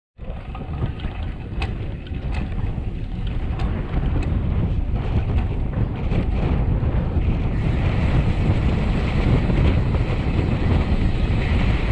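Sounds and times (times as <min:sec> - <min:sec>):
wind buffeting microphone: 0:00.2 - 0:11.9.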